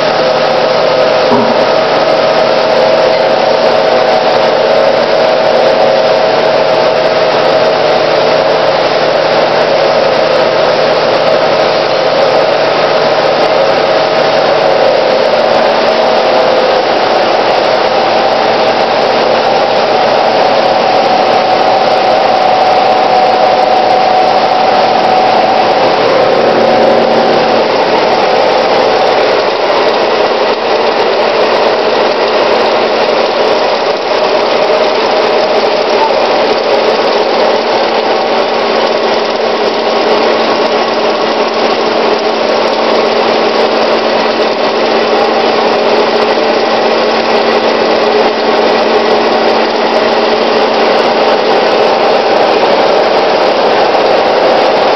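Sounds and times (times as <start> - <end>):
machine drone with whine: 0.0 - 54.9.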